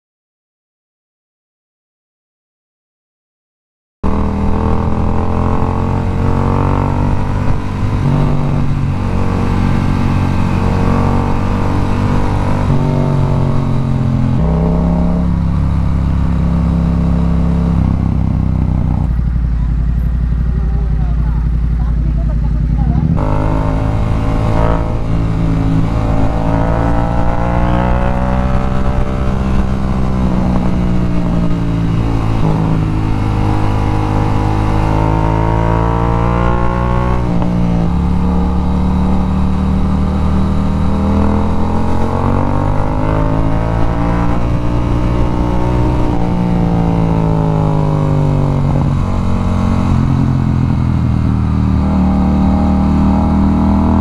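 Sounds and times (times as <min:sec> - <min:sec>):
motorcycle engine revving: 0:04.0 - 0:54.0.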